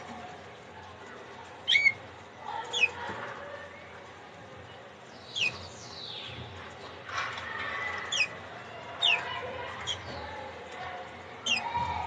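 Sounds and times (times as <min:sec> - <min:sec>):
canaries chirping: 0:01.4 - 0:12.0.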